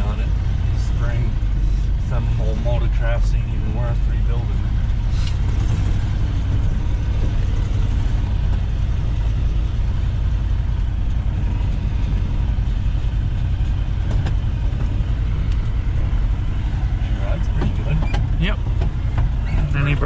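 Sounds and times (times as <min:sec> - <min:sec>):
truck engine low rumble: 0:00.0 - 0:20.0.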